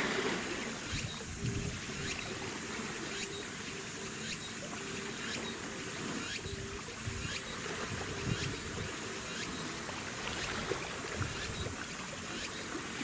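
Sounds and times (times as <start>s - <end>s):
water and wind noise: 0.0s - 13.0s.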